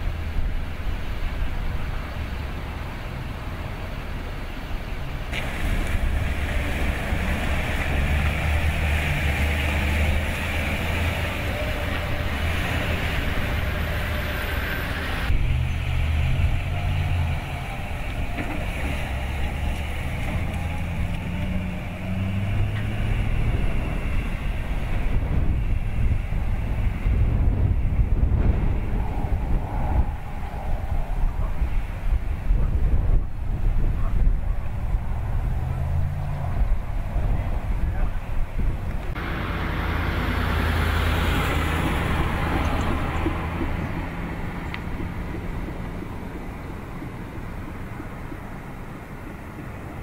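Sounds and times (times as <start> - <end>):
truck engine rumbling and pulling away: 0.0 - 50.0.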